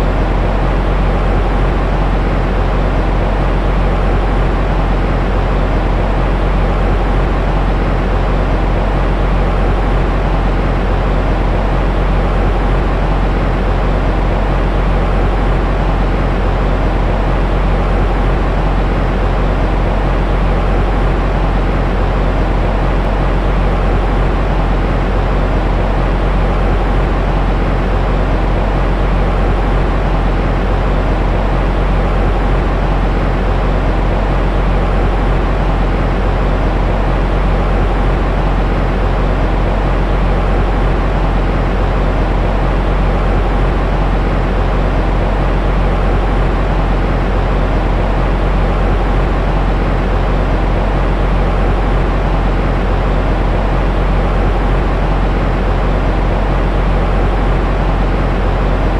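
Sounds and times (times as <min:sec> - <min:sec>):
deep rushing white noise: 0:00.0 - 0:58.9.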